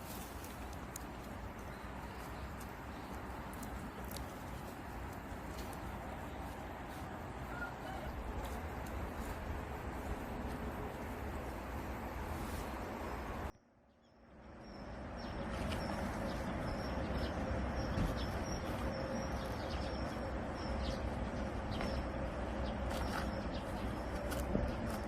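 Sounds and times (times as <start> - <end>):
birds chirping: 0.0 - 9.4, 10.0 - 25.0.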